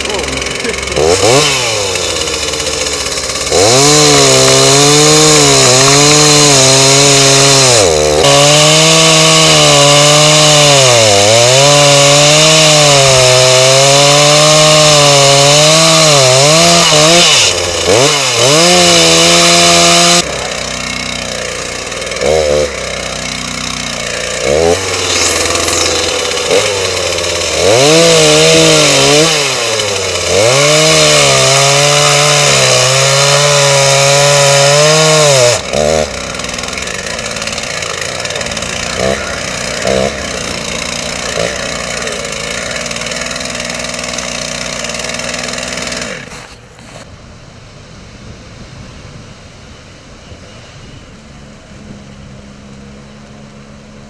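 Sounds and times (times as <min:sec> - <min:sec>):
chainsaw idling and revving: 0:00.0 - 0:47.0
chainsaw cutting wood: 0:00.0 - 0:47.1.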